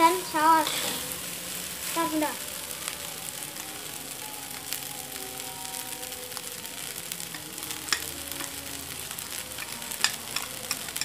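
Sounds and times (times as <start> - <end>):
fried rice sizzling in a wok: 0.0 - 11.0.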